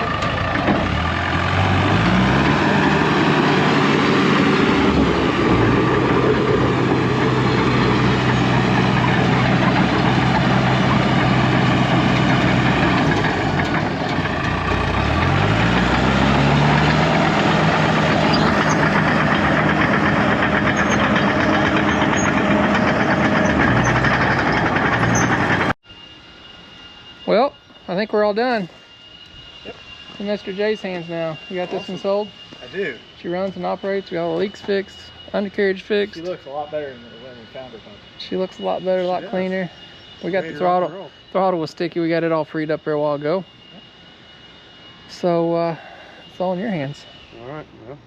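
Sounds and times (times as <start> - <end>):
bulldozer diesel engine running: 0.0 - 25.8, 30.1 - 43.8.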